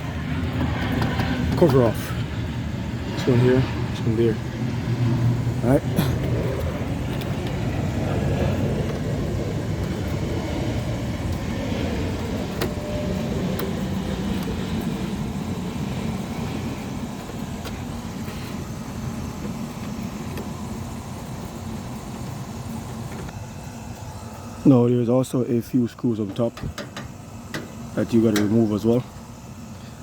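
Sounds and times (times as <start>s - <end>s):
motor vehicle rumbling: 0.0s - 24.5s.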